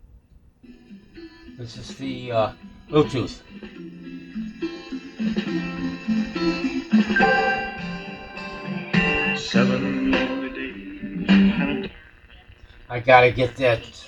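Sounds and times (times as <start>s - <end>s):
plucked guitar music on radio: 0.5s - 14.0s.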